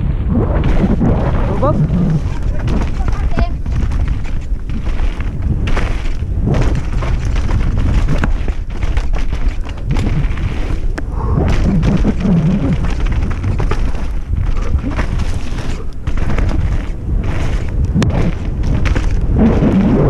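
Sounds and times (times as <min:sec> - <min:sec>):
mountain bike rattling on dirt trail: 0:00.0 - 0:20.0
wind on microphone: 0:00.0 - 0:20.0
bike knocking over bumps: 0:02.2 - 0:20.0.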